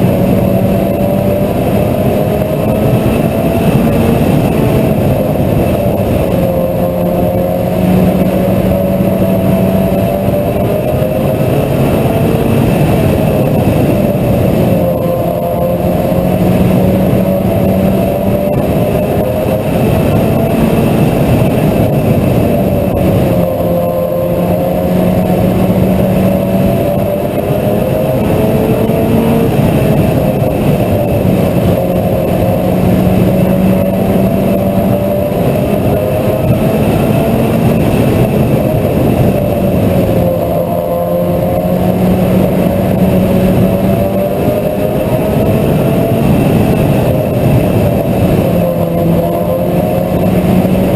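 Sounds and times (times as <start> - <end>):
heavy rush of noise: 0.0 - 50.9
race car engine running hard: 0.0 - 50.9.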